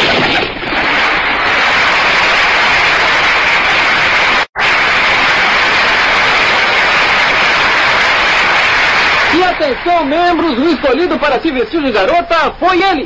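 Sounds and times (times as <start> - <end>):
group hand clapping: 0.0 - 11.8.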